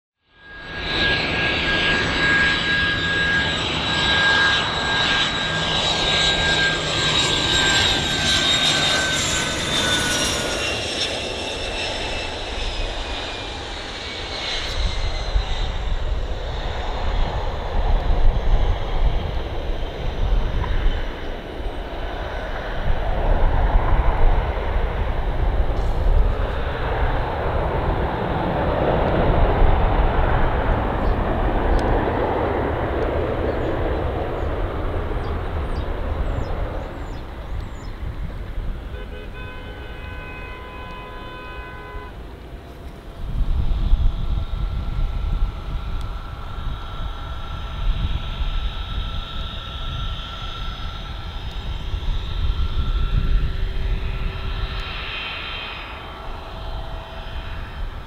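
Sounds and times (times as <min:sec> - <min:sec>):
jet engine whine: 0:00.2 - 0:58.0
jet landing rumble: 0:00.3 - 0:58.0.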